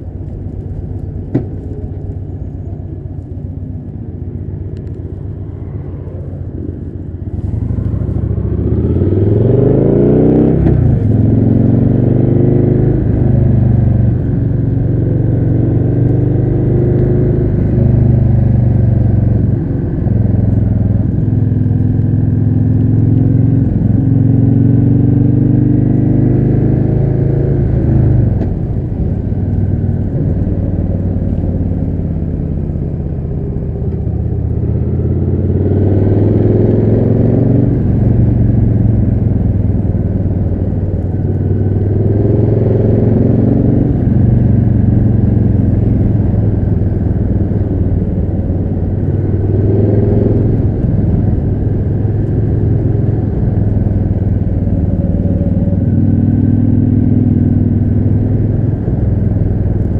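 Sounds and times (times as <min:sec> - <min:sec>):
motorcycle engine revving: 0:03.6 - 0:59.9.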